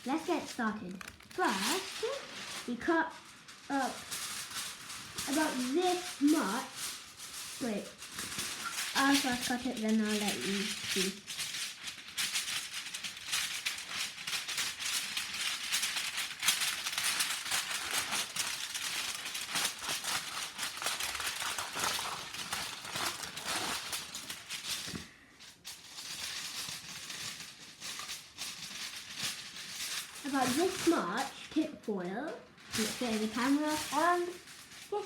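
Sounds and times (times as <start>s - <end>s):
aluminium foil crinkling: 0.0s - 35.0s
scissors cutting foil: 0.0s - 35.0s.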